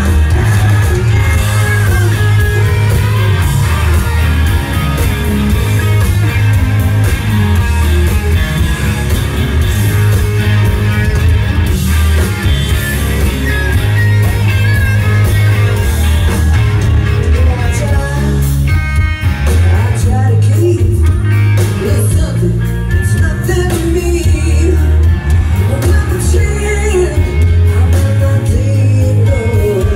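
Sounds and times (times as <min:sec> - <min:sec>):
hard rock band playing live: 0:00.0 - 0:29.9.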